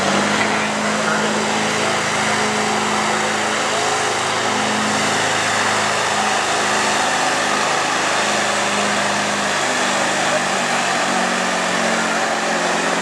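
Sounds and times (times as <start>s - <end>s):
tractor engine under heavy load: 0.0s - 13.0s.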